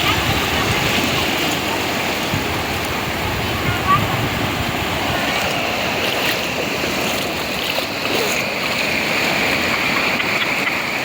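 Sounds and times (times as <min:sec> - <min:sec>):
sea surf and waves: 0:00.0 - 0:11.0.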